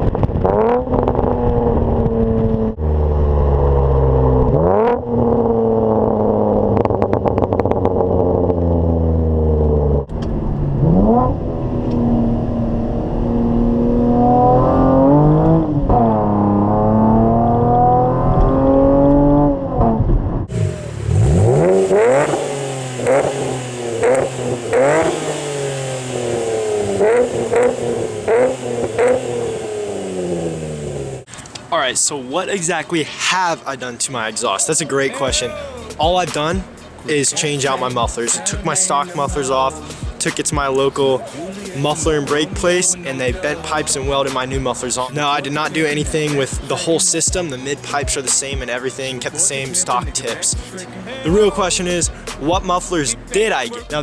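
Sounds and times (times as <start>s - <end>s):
car exhaust revving: 0.0s - 31.8s, 35.3s - 54.0s.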